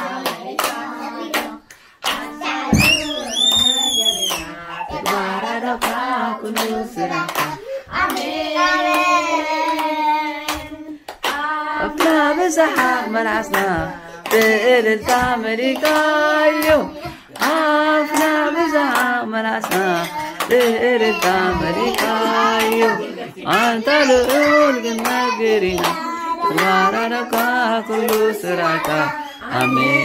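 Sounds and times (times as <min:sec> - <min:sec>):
children singing: 0:00.0 - 0:30.0
hand claps: 0:00.2 - 0:22.9, 0:23.5 - 0:30.0.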